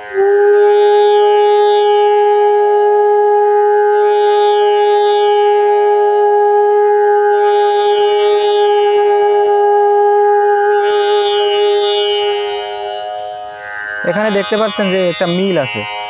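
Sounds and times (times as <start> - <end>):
bamboo flute long note: 0.0 - 13.6
tanpura drone: 0.0 - 16.0.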